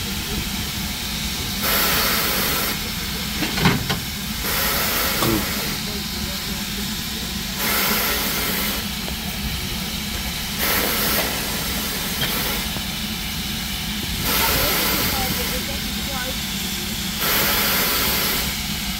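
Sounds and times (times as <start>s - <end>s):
steam locomotive hissing steam: 0.0s - 18.9s.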